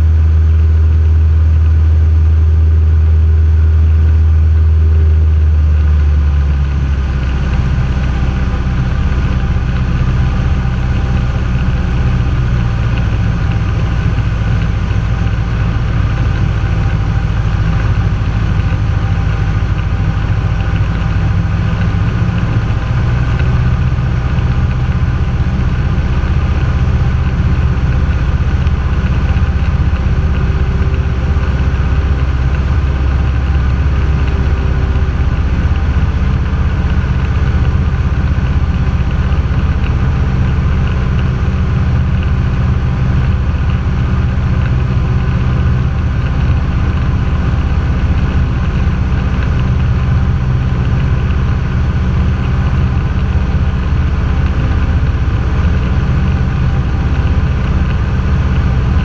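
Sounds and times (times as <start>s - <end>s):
propeller plane engine drone: 0.0s - 59.0s.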